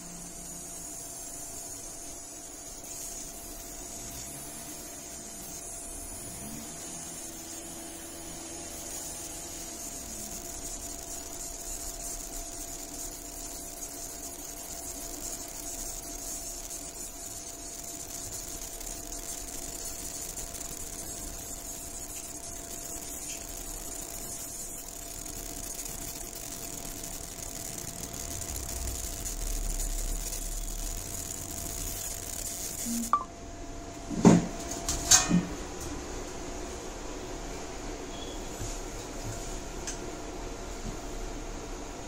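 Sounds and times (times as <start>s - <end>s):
thin steady hum: 0.0s - 38.8s
laser marking machine hiss and whine: 0.0s - 42.0s.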